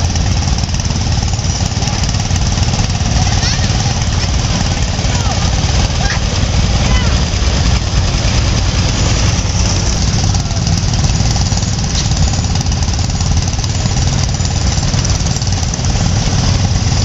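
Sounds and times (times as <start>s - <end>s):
tractor engines chugging: 0.0s - 17.0s.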